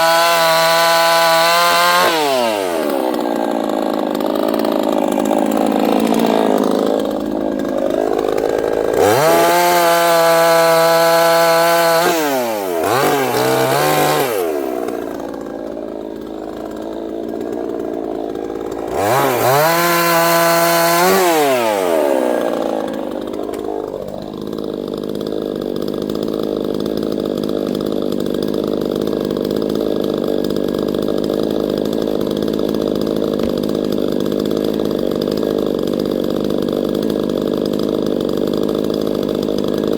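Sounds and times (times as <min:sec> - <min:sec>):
chainsaw engine revving and idling: 0:00.0 - 0:39.9.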